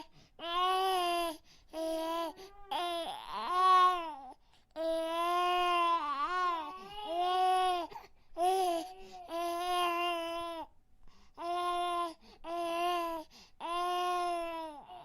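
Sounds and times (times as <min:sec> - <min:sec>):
infant crying: 0:00.0 - 0:10.7, 0:11.4 - 0:15.0.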